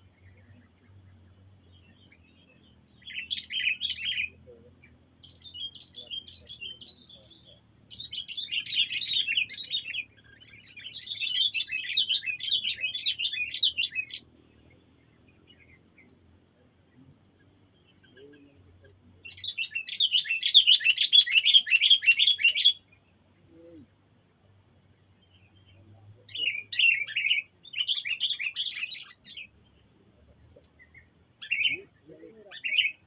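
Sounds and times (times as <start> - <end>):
small songbird chattering song: 0.0 - 33.0.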